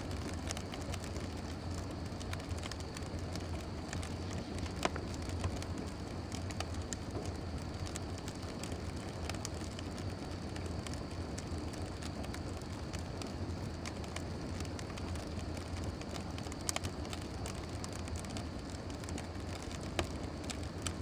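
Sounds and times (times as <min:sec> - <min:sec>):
fire crackling and popping: 0:00.0 - 0:21.0
steady rushing hiss: 0:00.0 - 0:21.0.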